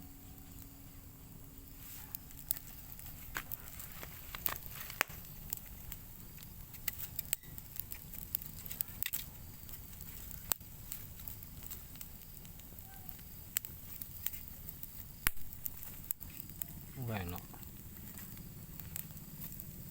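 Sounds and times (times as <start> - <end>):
open fire crackling: 0.0 - 19.9
sharp pops and snaps: 1.6 - 19.9.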